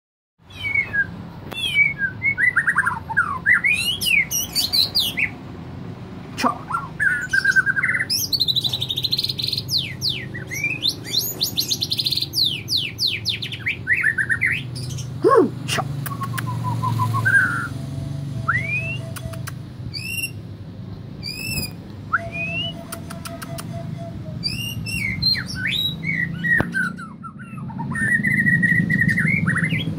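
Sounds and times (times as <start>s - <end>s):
songbird singing: 0.4s - 5.5s, 6.2s - 29.9s.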